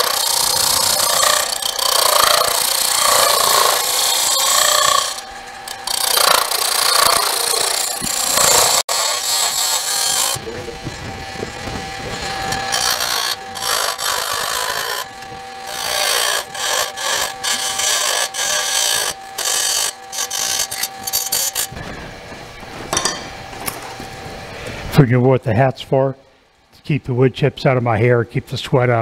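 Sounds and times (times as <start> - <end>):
turning tool scraping wood: 0.0 - 24.2
wood lathe hum: 0.0 - 24.8.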